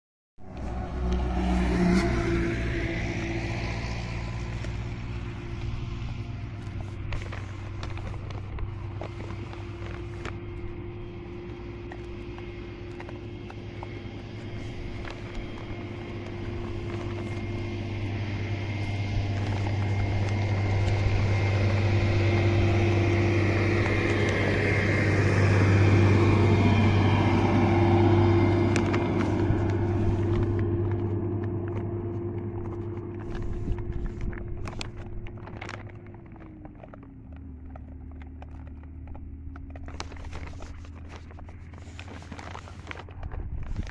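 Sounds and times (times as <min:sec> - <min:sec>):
vehicle engine humming: 0:00.4 - 0:43.9.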